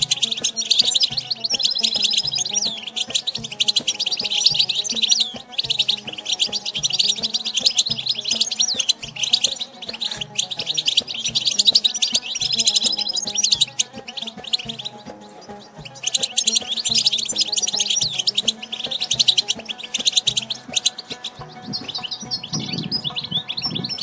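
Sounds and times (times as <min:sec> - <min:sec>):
background music: 0:00.0 - 0:24.0
goldfinch twittering: 0:00.0 - 0:24.0.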